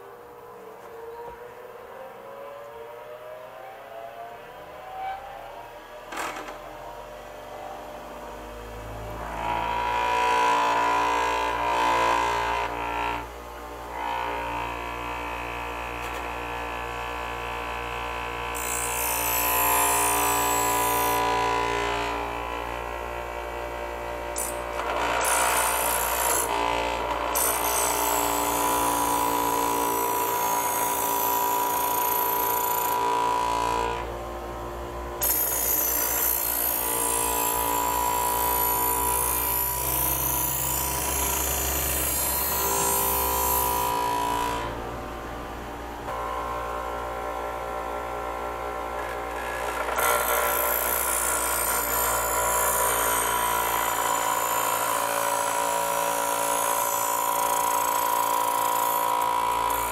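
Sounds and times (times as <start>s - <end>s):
bench grinder whining: 8.2s - 45.4s, 46.1s - 59.9s.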